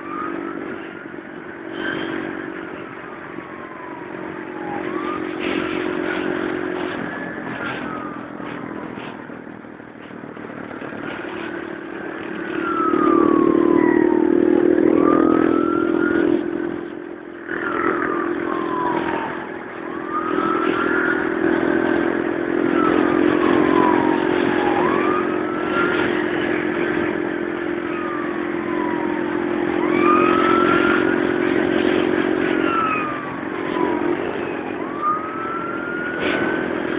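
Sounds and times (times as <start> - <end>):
motorcycle engine cruising: 0.0 - 36.9
siren wailing: 0.0 - 36.9
wind and road noise: 0.0 - 36.9.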